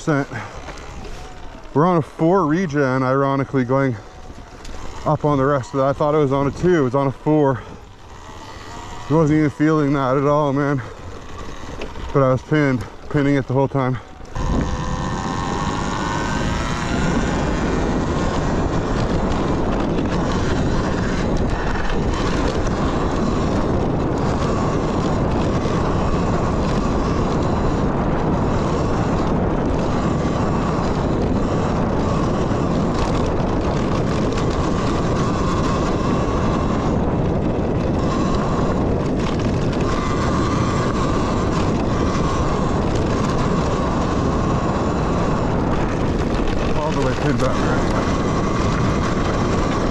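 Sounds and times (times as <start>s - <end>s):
electric motor whine: 0.0s - 49.9s
wind and trail noise: 0.0s - 49.9s.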